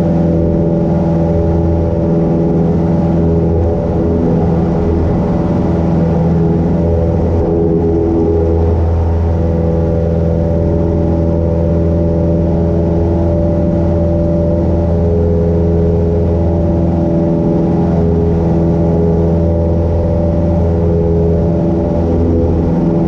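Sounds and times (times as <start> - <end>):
airplane engine and propeller: 0.0 - 23.0.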